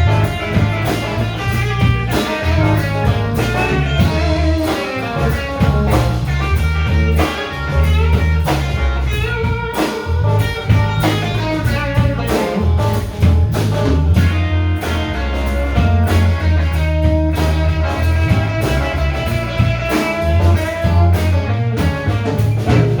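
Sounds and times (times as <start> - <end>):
electric guitar lines: 0.0 - 23.0
steady drum beat: 0.0 - 23.0
walking bass: 0.0 - 23.0.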